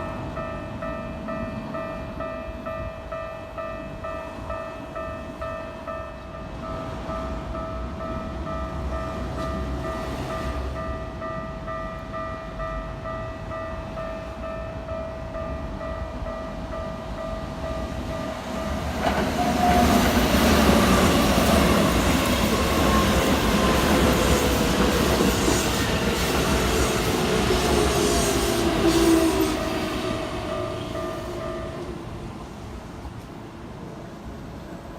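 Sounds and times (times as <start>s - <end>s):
train wheels on rails: 0.0s - 34.9s.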